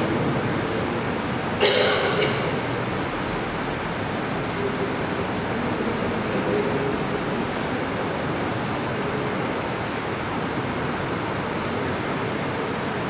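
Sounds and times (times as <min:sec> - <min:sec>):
fan running: 0:00.0 - 0:13.0.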